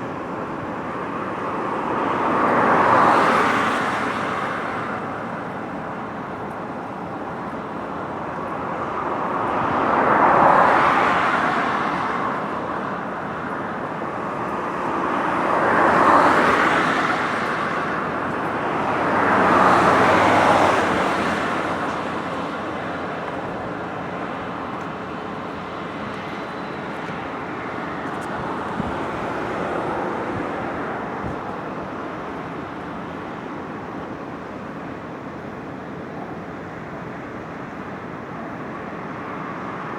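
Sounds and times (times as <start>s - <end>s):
distant traffic hum: 0.0s - 39.9s
vehicles passing close by: 0.0s - 39.9s.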